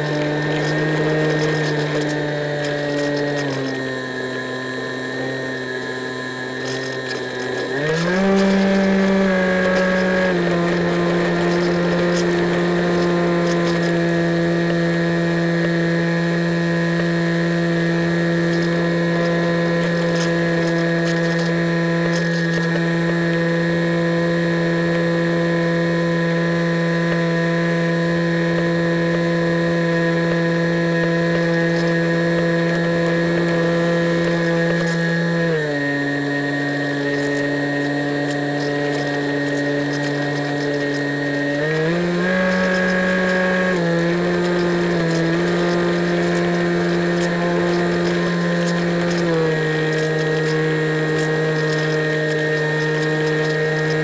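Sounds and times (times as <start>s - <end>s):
electric motor and propeller droning: 0.0s - 54.0s.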